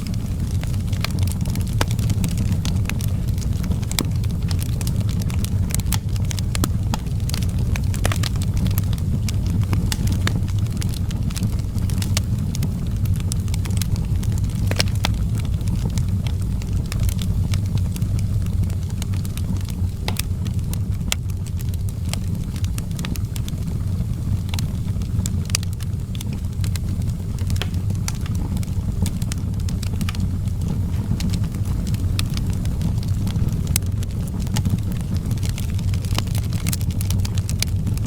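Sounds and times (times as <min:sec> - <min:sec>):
fire crackling and popping: 0:00.0 - 0:38.0
fire rumbling: 0:00.0 - 0:38.0.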